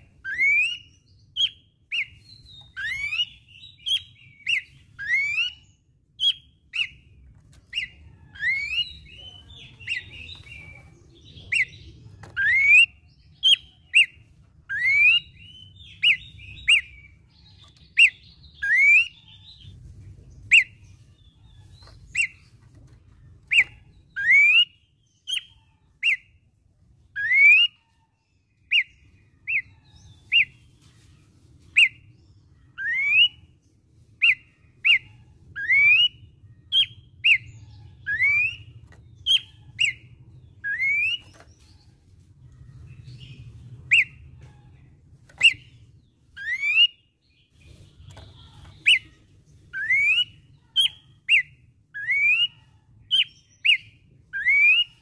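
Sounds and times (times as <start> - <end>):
bird whistling song: 0.0 - 19.7, 20.4 - 22.6, 23.4 - 26.4, 27.1 - 28.0, 28.6 - 30.6, 31.7 - 41.9, 42.9 - 44.4, 45.3 - 55.0.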